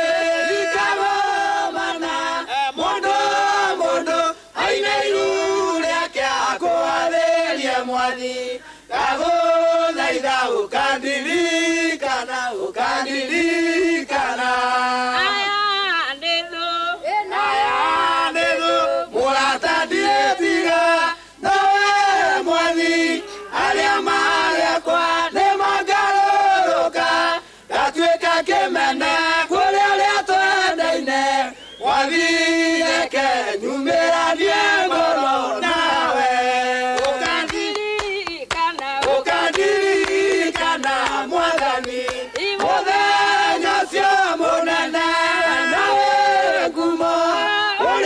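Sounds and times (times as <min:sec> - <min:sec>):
mixed choir singing gospel: 0:00.0 - 0:48.0.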